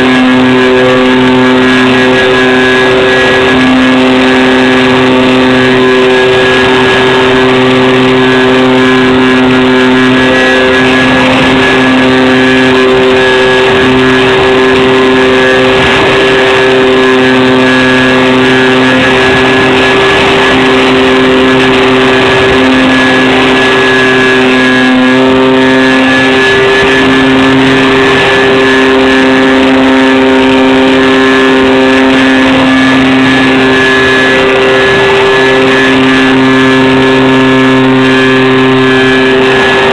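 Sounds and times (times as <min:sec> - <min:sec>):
electric motors and propellers: 0:00.0 - 0:39.9.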